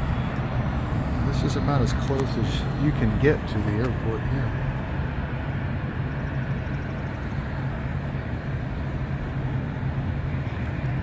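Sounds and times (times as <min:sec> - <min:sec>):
airport and road traffic rumble: 0:00.0 - 0:11.0
constant low hum: 0:00.0 - 0:11.0.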